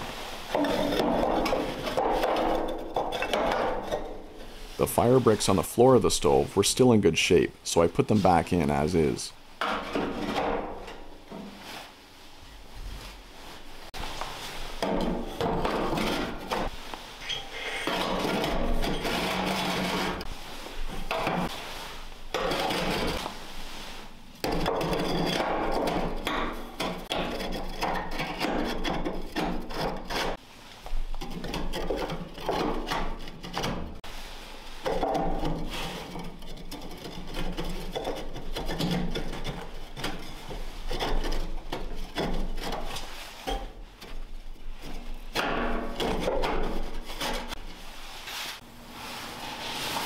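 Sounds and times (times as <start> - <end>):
bricks scraping against brick and steel: 0.0 - 5.5, 9.6 - 12.0, 13.9 - 48.6.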